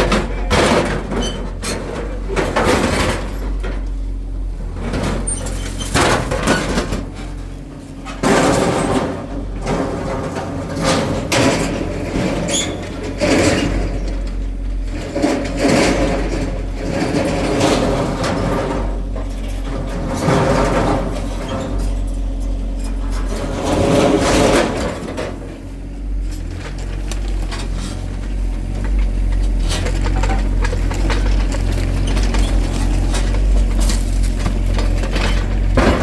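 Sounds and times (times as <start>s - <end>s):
diesel engine running: 0.0s - 36.0s
loud grinding and scraping: 0.0s - 36.0s.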